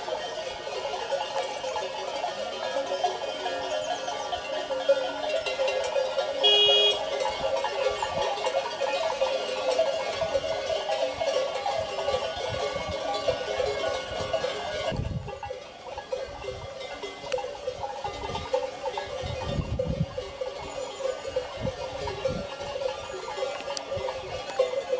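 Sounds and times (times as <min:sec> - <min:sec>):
cowbells clanking: 0:00.0 - 0:24.9.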